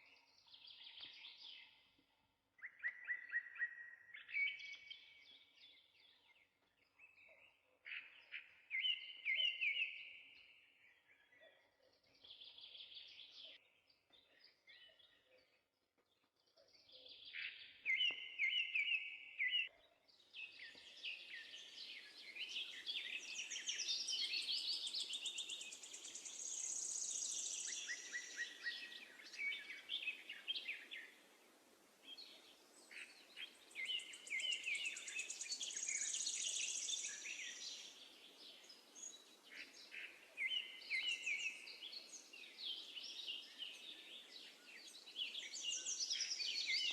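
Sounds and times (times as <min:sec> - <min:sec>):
sparrows chirping: 0:02.6 - 0:31.2, 0:32.0 - 0:46.9.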